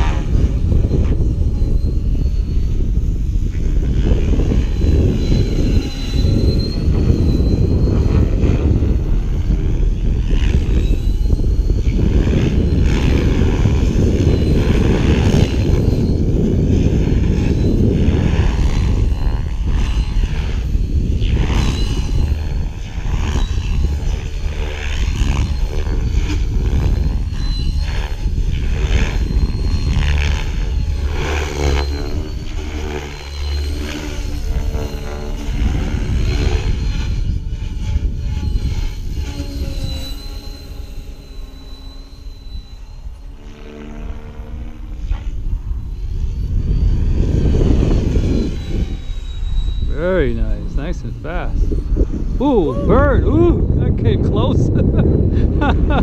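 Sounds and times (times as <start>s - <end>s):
low rumble: 0.0s - 56.0s
rc helicopter rotor whine: 0.0s - 56.0s.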